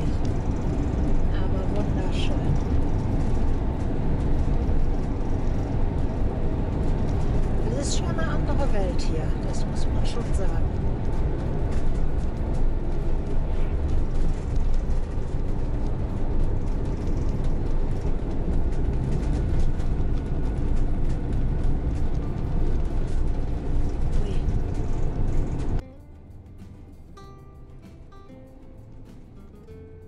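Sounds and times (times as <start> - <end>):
engine and road noise in cab: 0.0 - 30.0.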